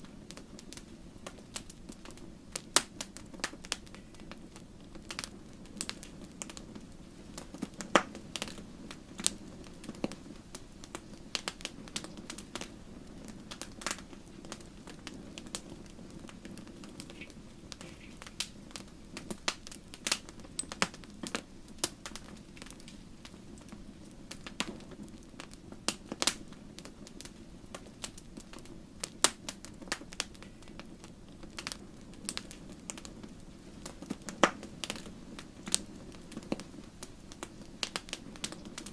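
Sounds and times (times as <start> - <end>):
logs crackling and popping: 0.0 - 38.9
low rustle of flame: 0.0 - 38.9.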